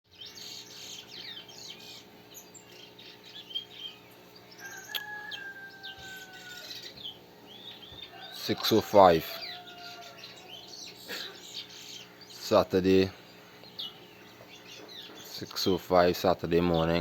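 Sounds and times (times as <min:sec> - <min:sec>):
wild birds chirping: 0:00.1 - 0:17.0.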